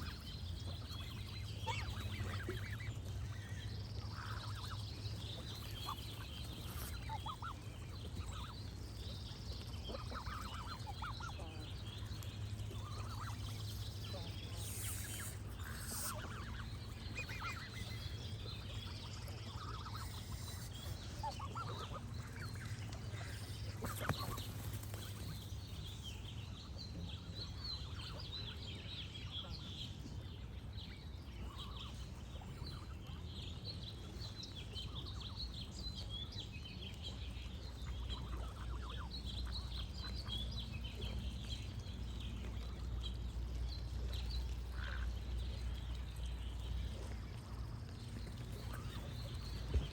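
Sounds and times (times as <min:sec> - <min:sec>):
birdsong: 0:00.0 - 0:49.9.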